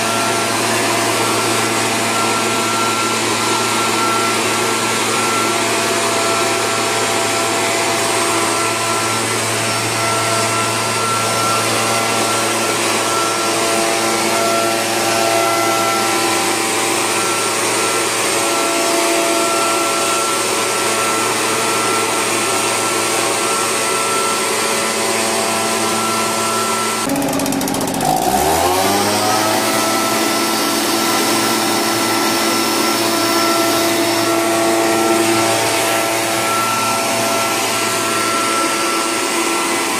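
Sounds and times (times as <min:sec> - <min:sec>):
mist blower engine running: 0:00.0 - 0:39.9.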